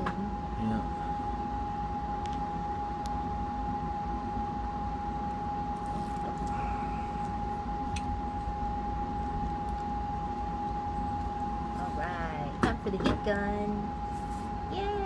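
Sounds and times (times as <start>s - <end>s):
machine hum with high-pitched whine: 0.0s - 15.0s.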